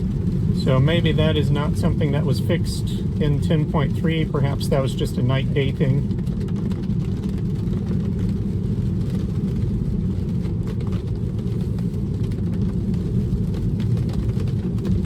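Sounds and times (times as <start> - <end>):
heavy rain: 0.0 - 15.0
road and tyre noise in car cabin: 0.0 - 15.0.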